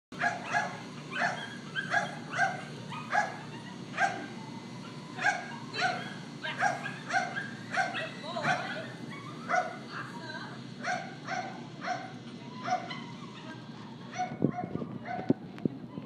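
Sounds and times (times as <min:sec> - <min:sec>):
dog barking: 0:00.2 - 0:04.4, 0:05.1 - 0:09.9, 0:10.8 - 0:15.4.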